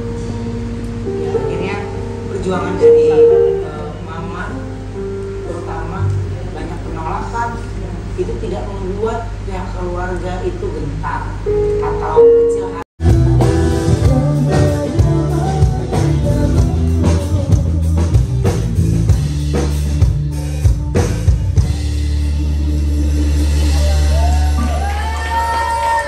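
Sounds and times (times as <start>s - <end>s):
live band with drums and keyboards: 0.0s - 7.7s, 11.4s - 26.0s.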